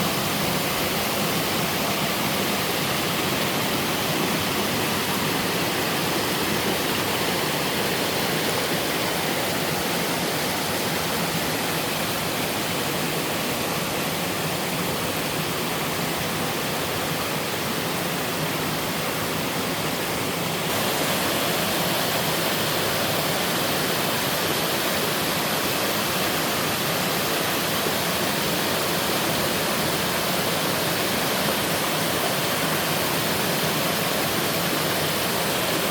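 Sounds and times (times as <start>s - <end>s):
waterfall rushing into pool: 0.0s - 35.9s.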